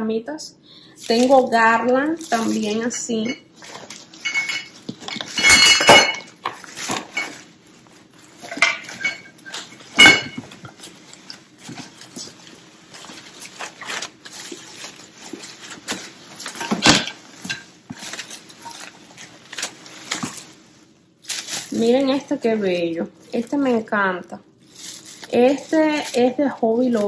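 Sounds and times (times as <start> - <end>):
leaf garlands rustling: 0.9 - 27.0.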